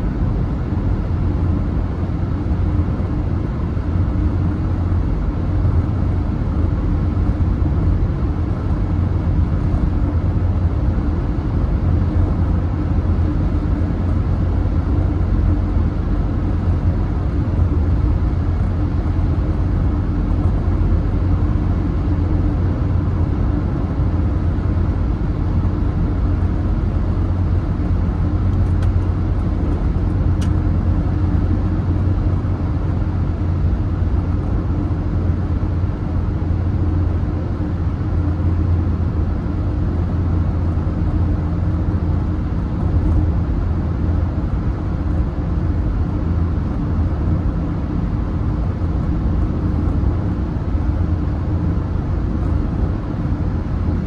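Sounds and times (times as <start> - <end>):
car tyre and engine rumble: 0.0 - 54.0.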